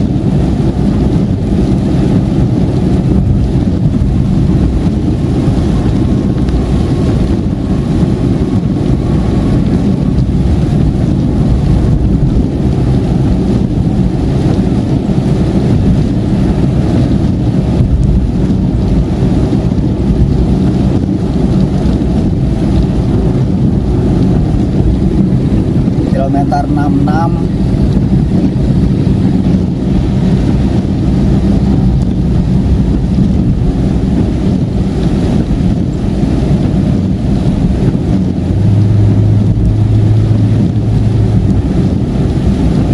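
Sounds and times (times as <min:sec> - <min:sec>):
car engine running: 0:00.0 - 0:42.9
rain on car: 0:00.0 - 0:42.9
tyres on wet road: 0:00.0 - 0:42.9.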